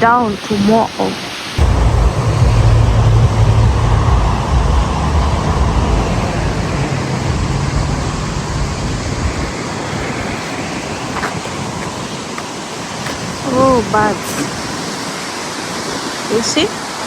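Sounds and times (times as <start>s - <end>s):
wind rushing: 1.6s - 16.3s
wind buffeting microphone: 1.6s - 16.8s.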